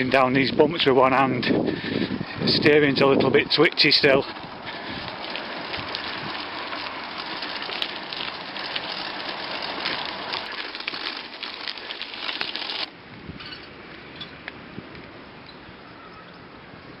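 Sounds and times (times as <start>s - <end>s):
bicycle rolling and rattling: 1.4s - 15.2s.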